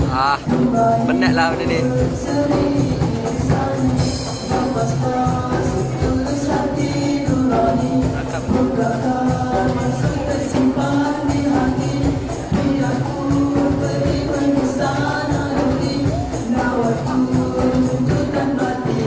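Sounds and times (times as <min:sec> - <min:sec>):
hand percussion beat: 0:00.0 - 0:19.0
male group singing: 0:00.0 - 0:19.0.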